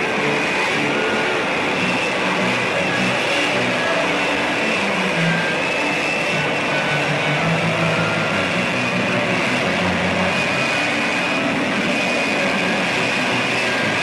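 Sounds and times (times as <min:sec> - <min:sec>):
jet engine rush: 0:00.0 - 0:14.0
thin high whine: 0:00.0 - 0:14.0.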